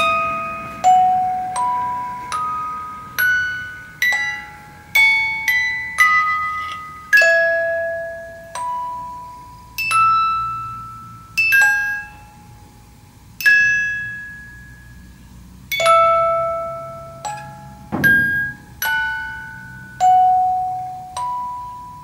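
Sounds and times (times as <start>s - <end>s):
music box playing slow tune: 0.0s - 22.0s.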